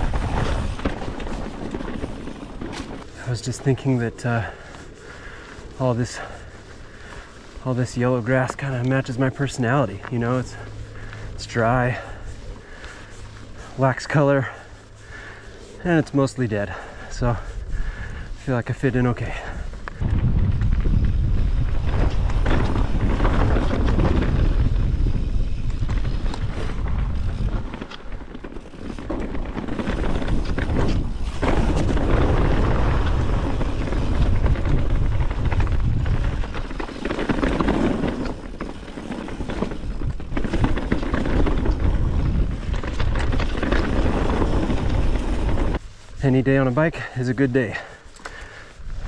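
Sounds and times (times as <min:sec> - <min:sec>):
bike tyres rolling over dirt: 0:00.0 - 0:49.0
wind rumbling on microphone: 0:00.0 - 0:49.0.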